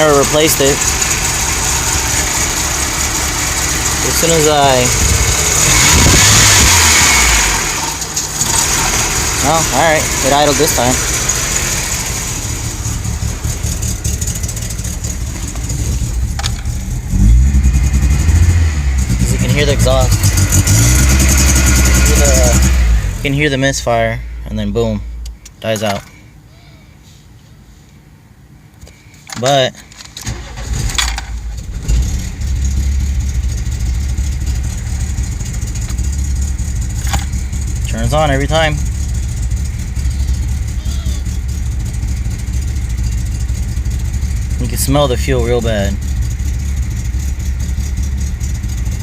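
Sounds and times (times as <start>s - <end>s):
car engine idling roughly: 0.0s - 18.3s, 19.0s - 25.5s, 30.4s - 49.0s
exhaust leak rumble: 0.0s - 25.6s, 30.3s - 49.0s.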